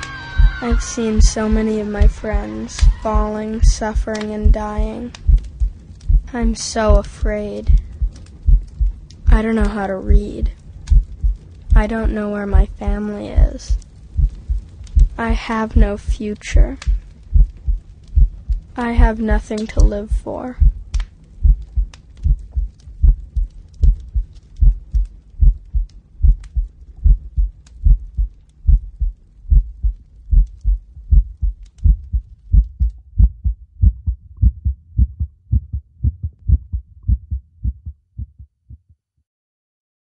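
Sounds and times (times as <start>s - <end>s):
heartbeat thumps: 0.4s - 39.0s.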